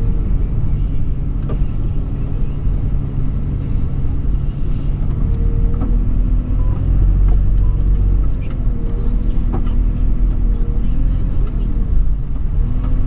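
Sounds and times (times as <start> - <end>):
car engine driving drone: 0.0 - 13.0.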